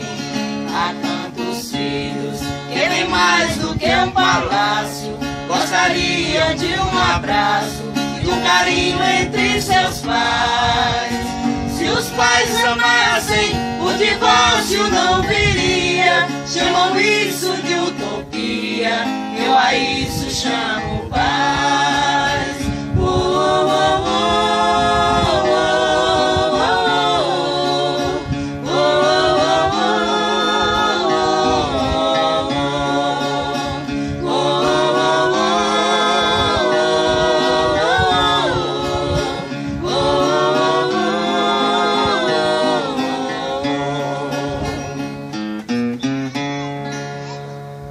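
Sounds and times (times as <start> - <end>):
sung vocalise with vibrato: 0.0 - 45.6.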